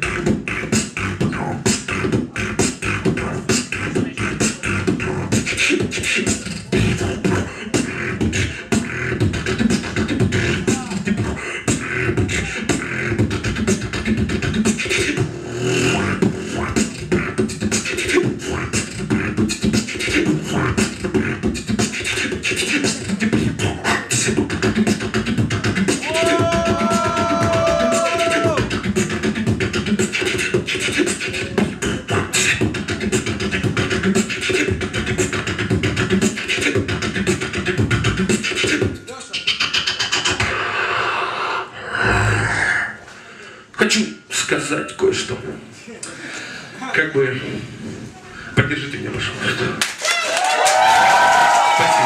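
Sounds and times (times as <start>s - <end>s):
beatboxing vocal percussion: 0.0s - 46.1s, 47.8s - 49.9s.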